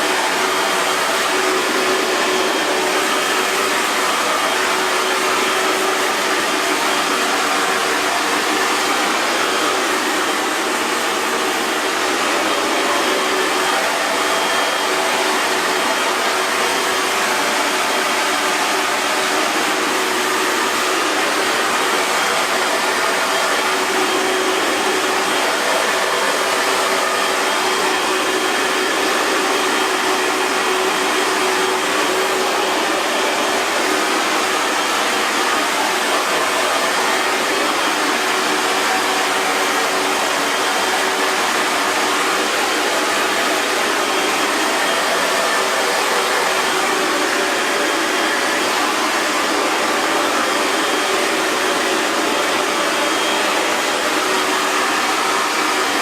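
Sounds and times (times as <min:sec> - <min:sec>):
hair dryer blowing air: 0:00.0 - 0:56.0.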